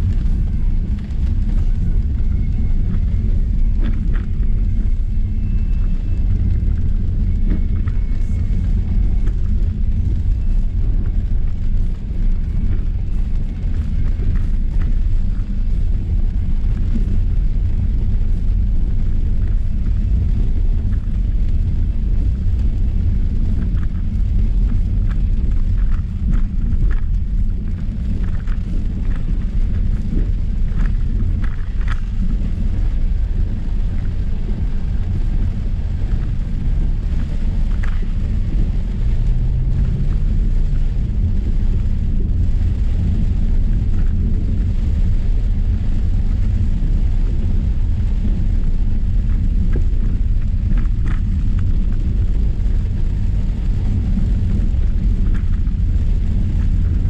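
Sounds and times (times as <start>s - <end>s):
tyres and engine rumble: 0.0s - 57.0s.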